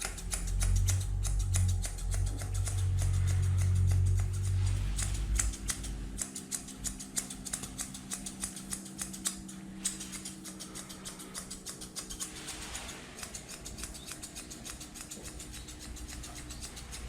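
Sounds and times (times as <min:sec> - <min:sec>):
low steady hum: 0:00.0 - 0:17.0
scissors snipping fur: 0:00.0 - 0:17.0.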